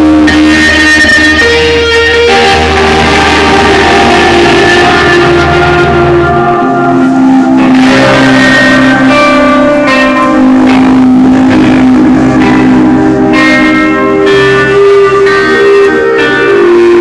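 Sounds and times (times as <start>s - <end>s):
guitars sustained notes: 0.0s - 17.0s
live band music: 0.0s - 17.0s.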